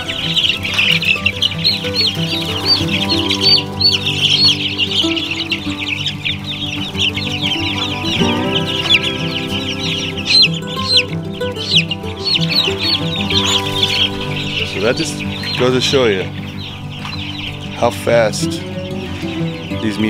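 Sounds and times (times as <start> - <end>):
background music: 0.0 - 20.0
chicks peeping: 0.0 - 20.0.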